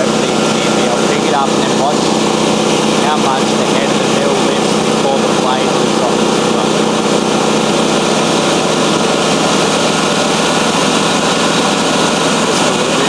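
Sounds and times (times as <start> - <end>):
petrol engine running: 0.0 - 13.0.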